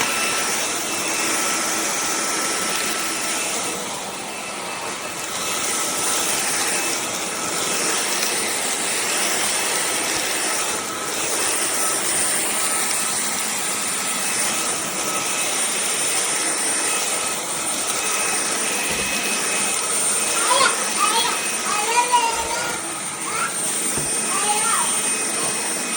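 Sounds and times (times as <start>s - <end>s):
stick vacuum running: 0.0s - 25.9s.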